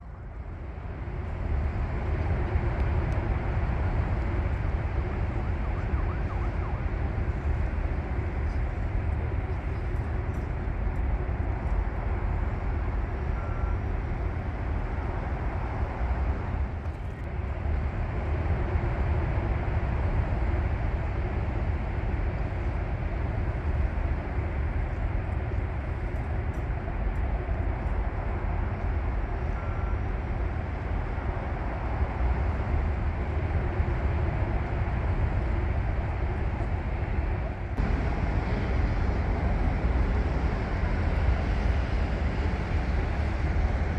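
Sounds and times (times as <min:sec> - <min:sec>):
distant traffic rumble: 0:00.0 - 0:43.9.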